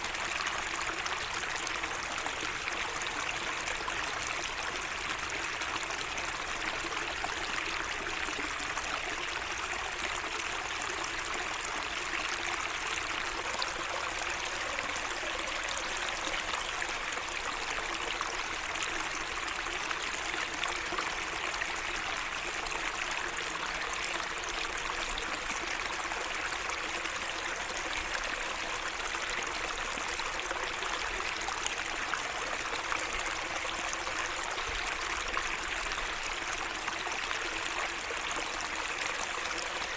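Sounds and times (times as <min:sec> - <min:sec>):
water trickling and rushing: 0:00.0 - 0:39.9.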